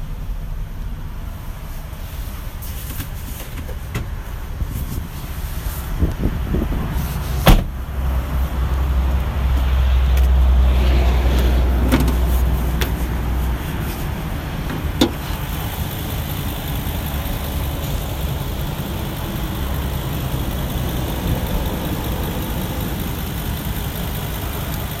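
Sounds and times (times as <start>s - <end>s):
van engine running: 0.0s - 25.0s.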